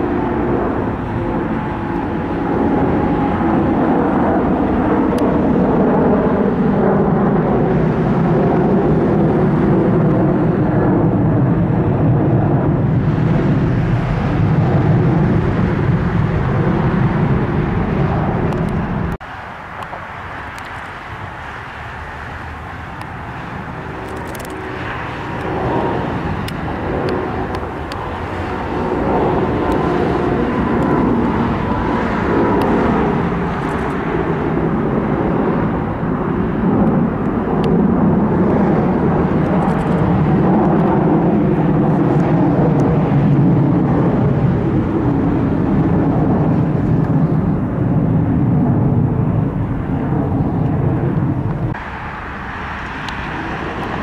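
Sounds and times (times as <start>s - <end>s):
jet engine roaring: 0.0s - 54.0s.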